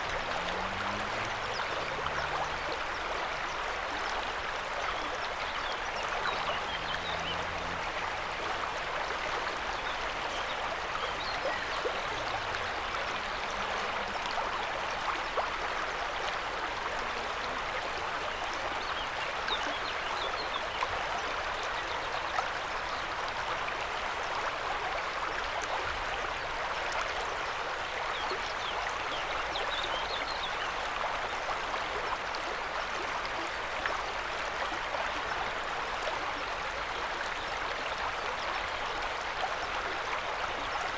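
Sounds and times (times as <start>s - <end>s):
river rushing and babbling: 0.0s - 40.9s.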